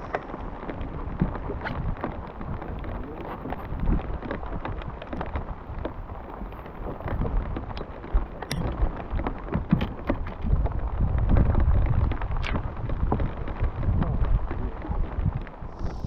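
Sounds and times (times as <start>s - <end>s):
rain falling: 0.0s - 16.0s
wind rumbling on microphone: 0.0s - 16.0s.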